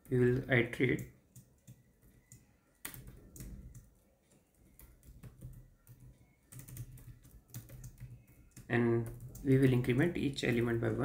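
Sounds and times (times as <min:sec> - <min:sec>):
faint keystrokes on keyboard: 0:00.0 - 0:10.9.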